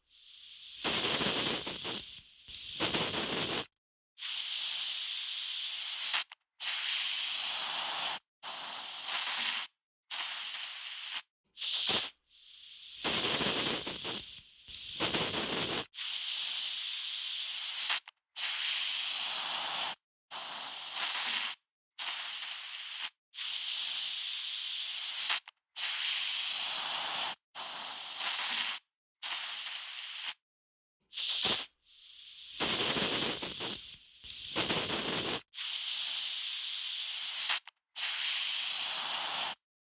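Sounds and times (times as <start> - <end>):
aerosol spray can hissing: 0.1 - 30.4, 31.1 - 39.6.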